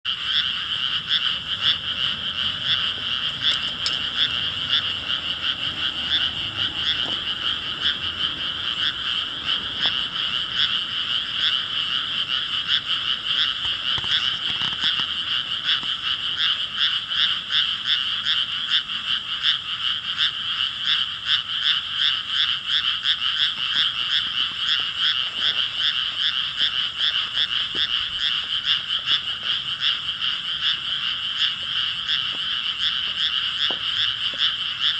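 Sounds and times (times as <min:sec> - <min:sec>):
frogs croaking in chorus: 0:00.0 - 0:34.9.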